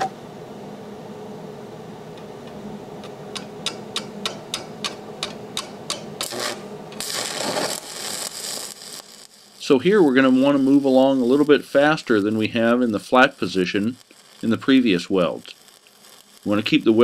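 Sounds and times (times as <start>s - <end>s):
welding arc hissing: 2.2s - 17.0s.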